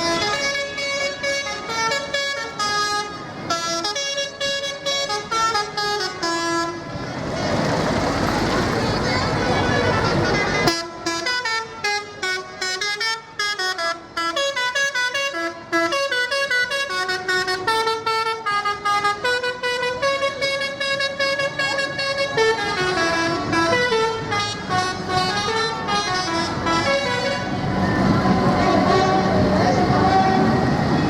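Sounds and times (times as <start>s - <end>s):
musical vehicle horn playing tune: 0.0s - 6.9s, 9.8s - 31.0s.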